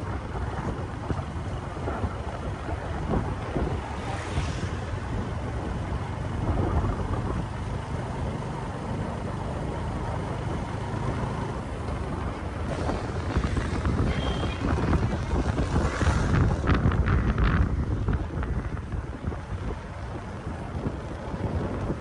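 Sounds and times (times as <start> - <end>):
motorbikes passing: 0.0 - 22.0
street traffic: 0.0 - 22.0
wind rumbling on microphone: 0.0 - 22.0.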